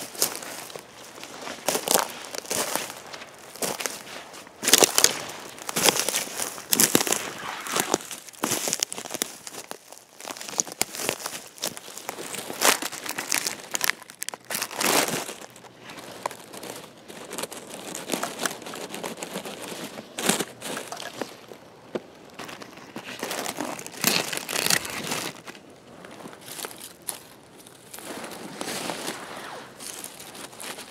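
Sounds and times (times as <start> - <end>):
leaf litter rustling by hand: 0.0 - 30.9.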